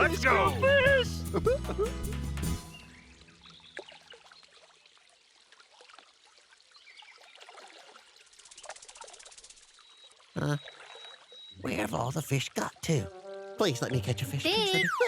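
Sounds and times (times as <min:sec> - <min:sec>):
stream trickling: 0:02.7 - 0:15.0.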